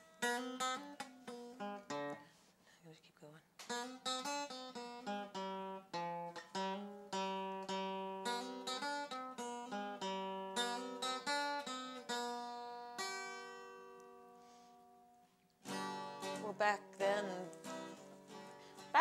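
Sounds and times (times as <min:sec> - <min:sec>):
acoustic guitar plucking: 0:00.0 - 0:02.4, 0:03.6 - 0:19.0.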